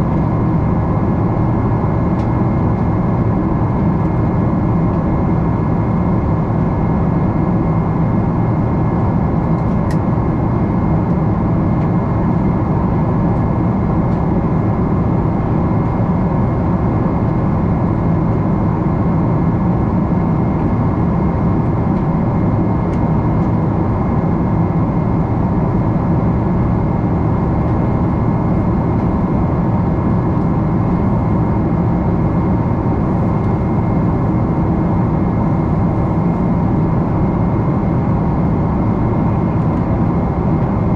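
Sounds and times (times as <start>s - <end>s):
jet engine and airflow drone: 0.0s - 40.9s.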